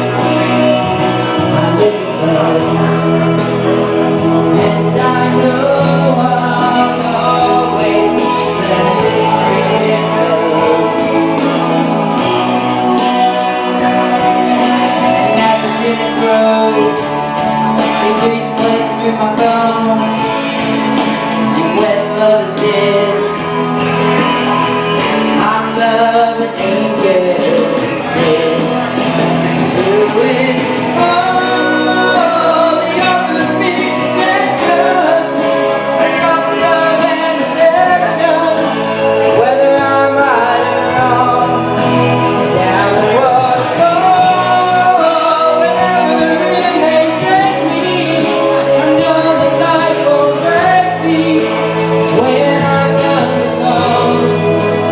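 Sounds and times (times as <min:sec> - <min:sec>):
pop ballad with singing: 0:00.0 - 0:54.9.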